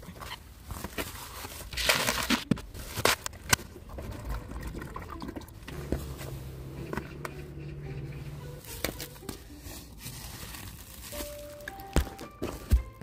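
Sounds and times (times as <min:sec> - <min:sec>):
plastic crinkling: 0:00.4 - 0:07.3, 0:08.5 - 0:13.0.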